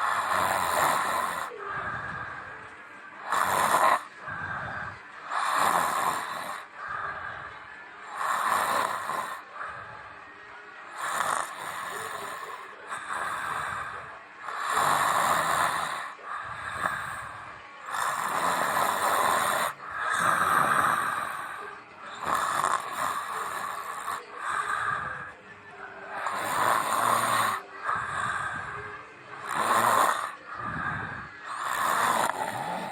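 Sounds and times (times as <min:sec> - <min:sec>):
person snoring: 0:00.0 - 0:02.6, 0:03.2 - 0:10.1, 0:11.0 - 0:25.4, 0:26.0 - 0:32.9.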